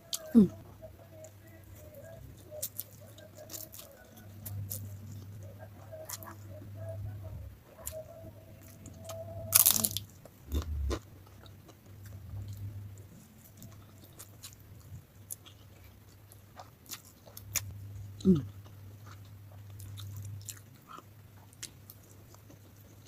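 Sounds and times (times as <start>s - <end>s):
biting and chewing noodles: 1.2s - 23.0s.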